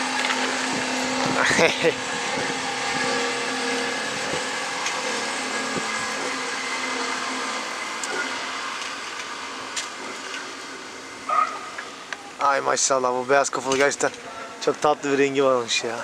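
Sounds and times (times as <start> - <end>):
motor-like whirring hum: 0.0 - 16.0.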